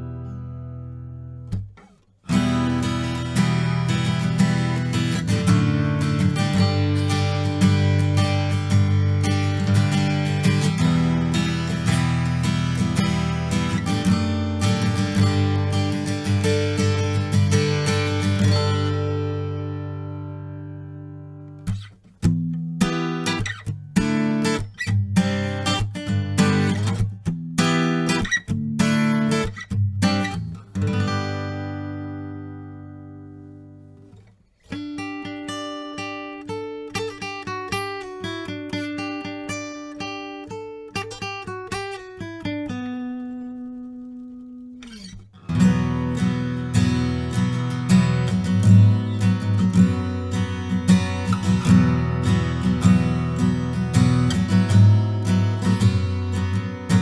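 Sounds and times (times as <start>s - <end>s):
acoustic guitar picked melody: 0.0s - 57.0s
acoustic guitar strumming: 0.0s - 57.0s.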